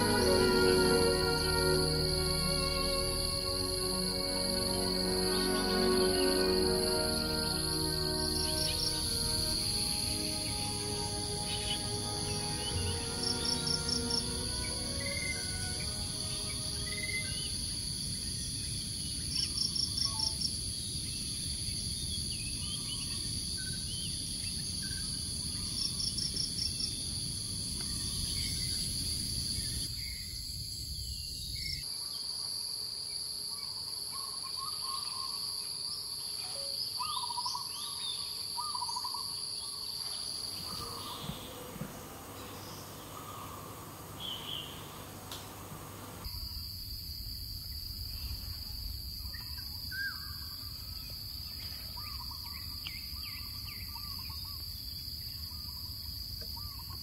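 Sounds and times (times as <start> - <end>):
insects buzzing: 0.0 - 30.2, 37.8 - 54.4.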